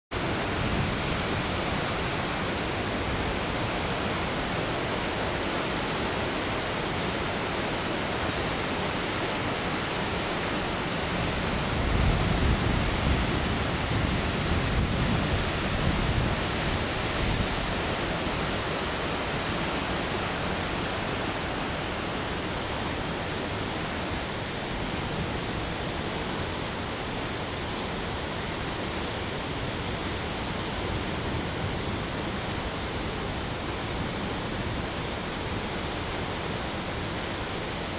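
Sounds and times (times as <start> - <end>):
waterfall and river roar: 0.1 - 37.9.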